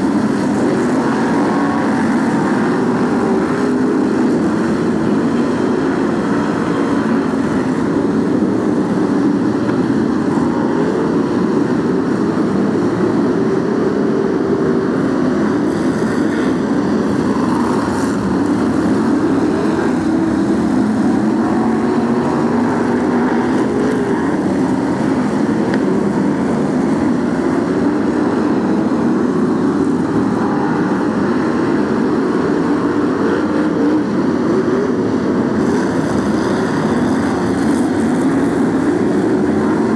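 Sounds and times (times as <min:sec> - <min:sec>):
racing car engines roaring: 0:00.0 - 0:39.9.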